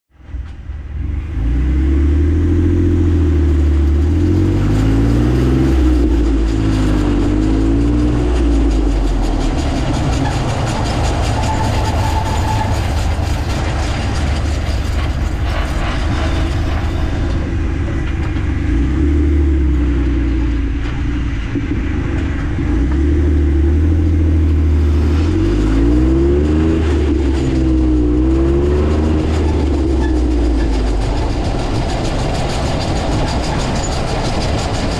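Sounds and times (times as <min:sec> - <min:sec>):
vehicle engine and driveline: 0:00.1 - 0:34.9.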